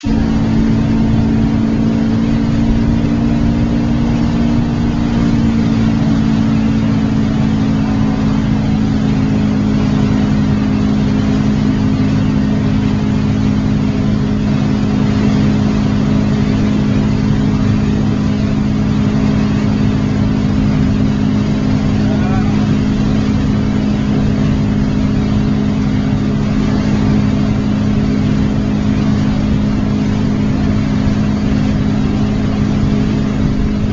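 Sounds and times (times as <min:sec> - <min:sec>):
motorboat engine running: 0:00.0 - 0:33.9
rushing water: 0:00.0 - 0:33.9
wind: 0:00.0 - 0:33.9.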